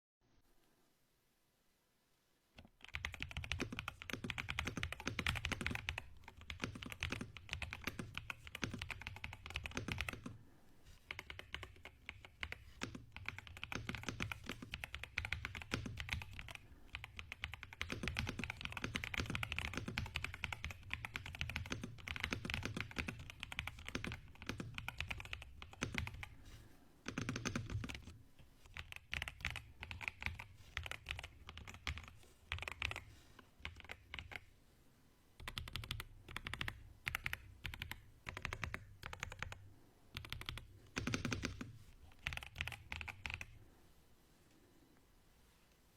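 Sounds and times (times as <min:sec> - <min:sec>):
mechanical keyboard typing: 0:02.6 - 0:10.4, 0:11.1 - 0:26.4, 0:27.0 - 0:34.5, 0:35.4 - 0:39.6, 0:40.2 - 0:43.6.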